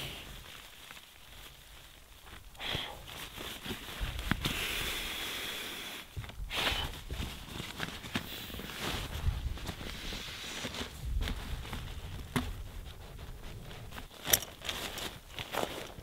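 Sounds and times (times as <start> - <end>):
sleeping pad rustling: 0.0 - 16.0.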